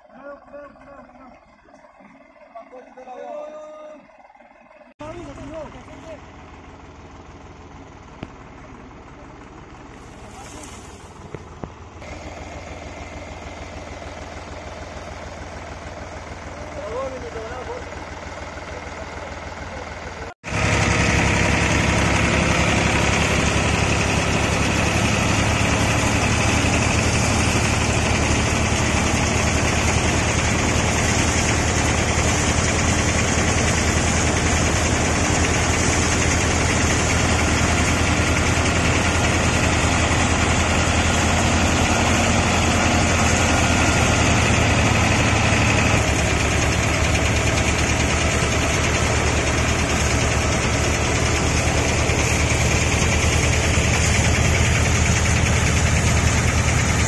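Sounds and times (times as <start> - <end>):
grain thresher running: 0.0 - 57.0
tractor engine hum: 0.0 - 57.0.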